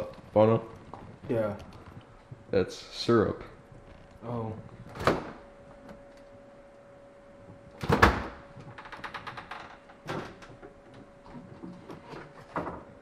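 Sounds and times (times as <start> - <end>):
faint refrigerator hum: 0.0 - 13.0.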